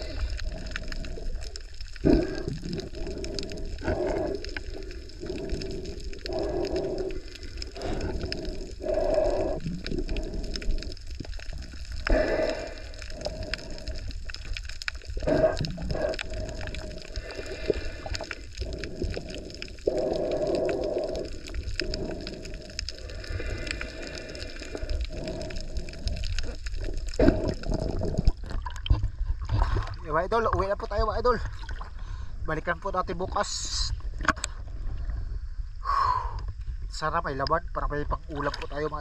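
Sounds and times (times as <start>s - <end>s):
muffled water sloshing and gurgling: 0.0s - 39.0s
steady low rumble: 0.0s - 39.0s.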